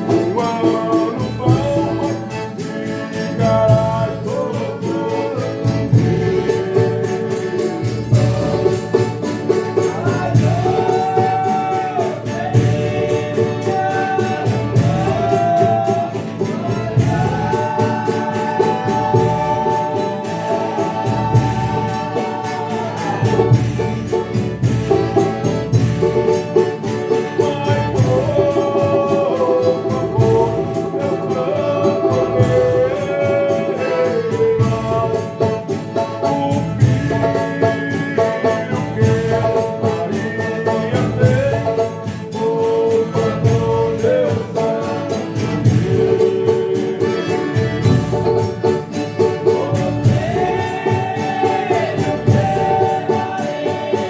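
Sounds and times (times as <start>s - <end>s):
accompanying instruments: 0.0s - 54.0s
tambourine: 0.0s - 54.0s
voices singing in chorus: 0.0s - 54.0s.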